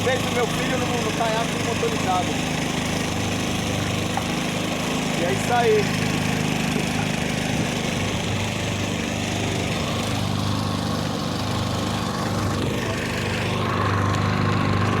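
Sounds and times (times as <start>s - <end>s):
small motor running through exhaust: 0.0s - 15.0s.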